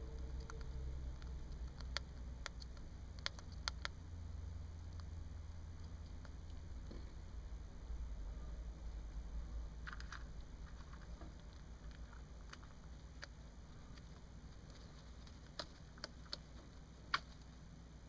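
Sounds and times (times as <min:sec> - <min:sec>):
hamster nibbling crunches: 0:00.0 - 0:18.0
low steady rumble: 0:00.0 - 0:18.0.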